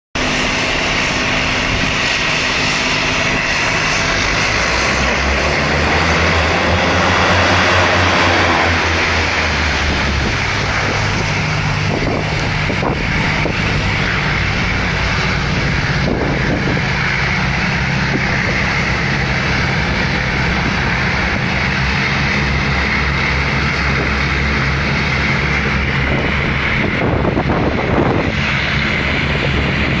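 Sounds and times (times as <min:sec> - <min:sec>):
hovercraft engines droning: 0:00.2 - 0:30.0
wind buffeting microphone: 0:00.2 - 0:30.0.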